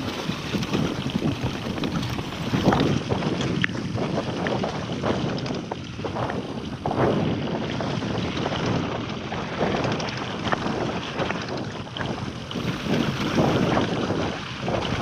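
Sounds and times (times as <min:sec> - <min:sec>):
bike rattles and knocks: 0:00.0 - 0:15.0
bike tyres on dirt and stones: 0:00.0 - 0:15.0
wind buffeting microphone: 0:00.0 - 0:15.0.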